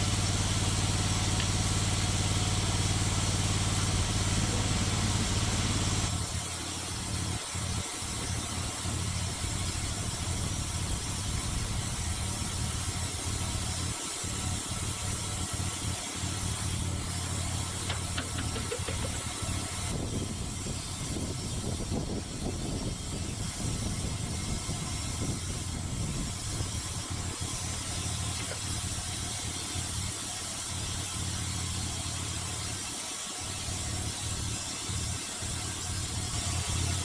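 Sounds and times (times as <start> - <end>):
sawmill gas engine humming: 0.0 - 37.0.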